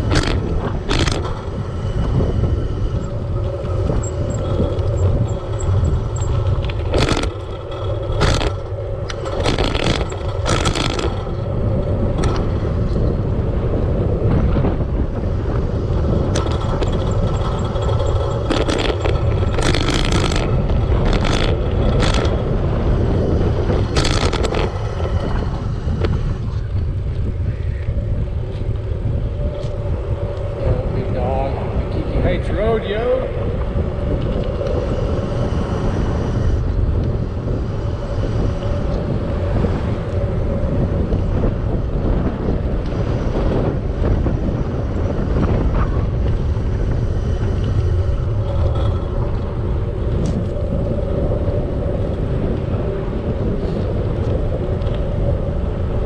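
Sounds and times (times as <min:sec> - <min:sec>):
steady hum: 0:00.0 - 0:56.0
wind and road noise: 0:00.0 - 0:56.0.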